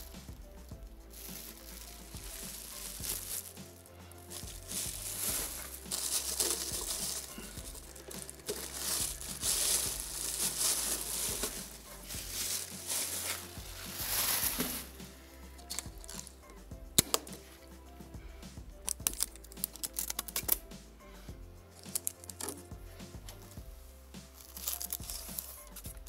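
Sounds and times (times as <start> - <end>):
bubble wrap and paper crinkling: 0.0 - 17.5, 18.8 - 20.6, 21.8 - 22.6, 24.2 - 26.0.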